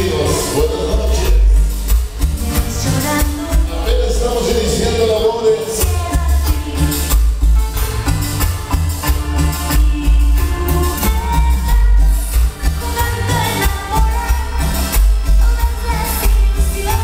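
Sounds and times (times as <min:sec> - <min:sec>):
person singing: 0:00.0 - 0:01.7, 0:02.3 - 0:07.2, 0:09.1 - 0:17.0
heavy bass beat: 0:00.0 - 0:17.0
latin dance music: 0:00.0 - 0:17.0.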